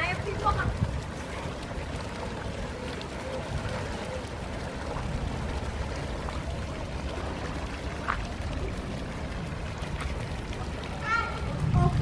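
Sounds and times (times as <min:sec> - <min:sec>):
water rushing in a stream: 0:00.0 - 0:12.0.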